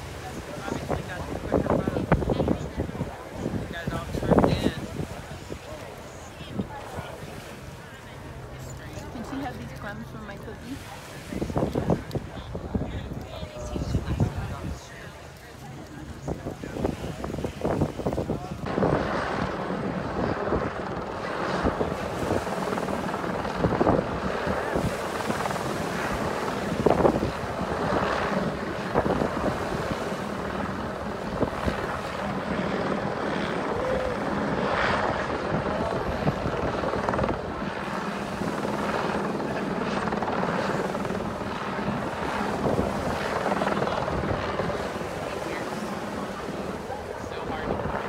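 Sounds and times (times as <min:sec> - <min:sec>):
helicopter rotor droning: 0:00.0 - 0:48.0.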